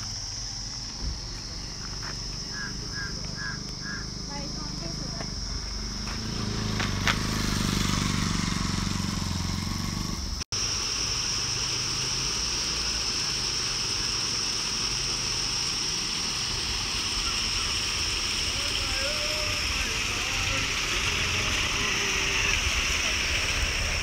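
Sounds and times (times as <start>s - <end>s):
motorcycle engine revving: 0.0s - 10.5s, 11.4s - 24.0s
insect drone: 0.0s - 24.0s.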